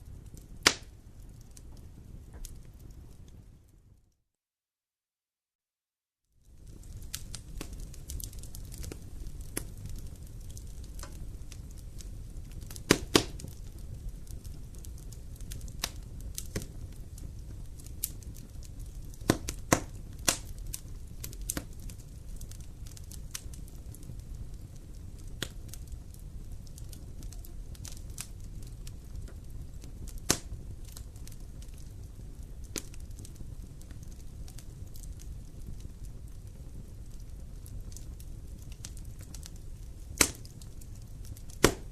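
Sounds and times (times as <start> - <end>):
campfire flames rushing: 0.0 - 3.8, 6.5 - 41.9
burning wood crackling and popping: 0.0 - 4.0, 6.4 - 41.9.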